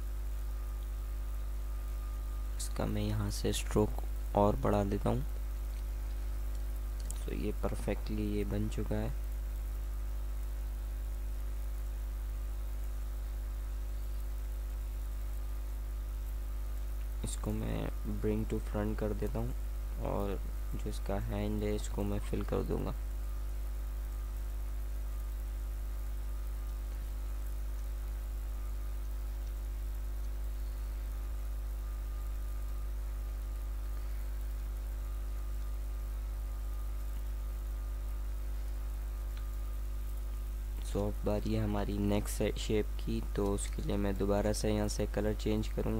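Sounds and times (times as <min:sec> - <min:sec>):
faint buzz and hiss: 0:00.0 - 0:45.9
low electrical hum: 0:00.0 - 0:45.9.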